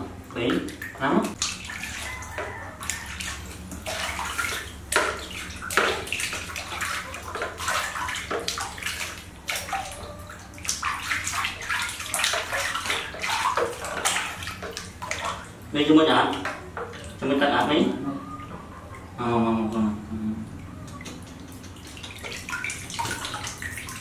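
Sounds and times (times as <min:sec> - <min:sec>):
water splashing in a basin: 0:00.3 - 0:17.7, 0:20.6 - 0:24.0.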